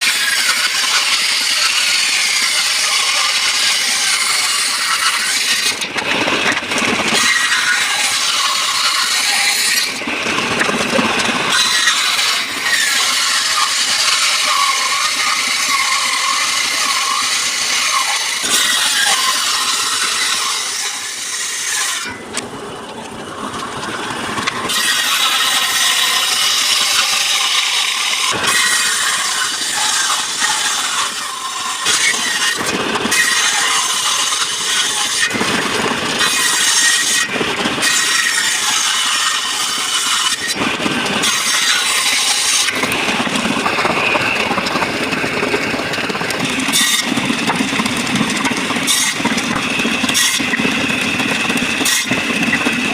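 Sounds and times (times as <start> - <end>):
power tools working wood: 0.0 - 52.9
wood being sawn: 0.0 - 52.9.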